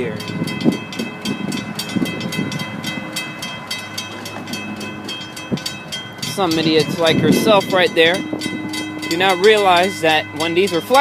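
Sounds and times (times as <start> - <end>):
crossing bell ringing: 0.0 - 11.0
freight train approaching: 0.0 - 11.0.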